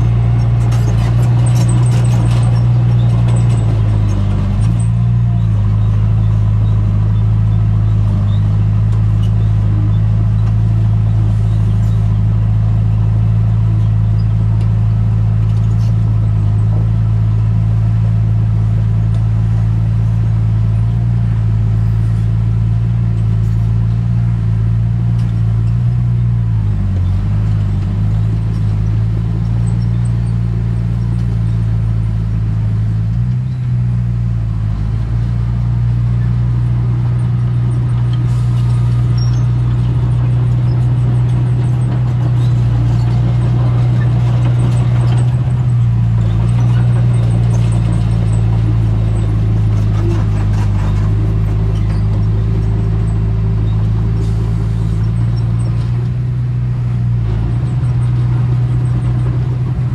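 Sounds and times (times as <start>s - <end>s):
earthmoving equipment diesel engine: 0.0s - 59.9s.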